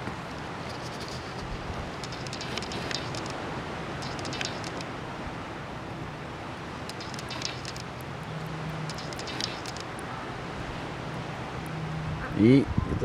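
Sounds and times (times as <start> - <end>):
crackling or rustling: 0.0 - 12.1
wind: 0.0 - 13.0.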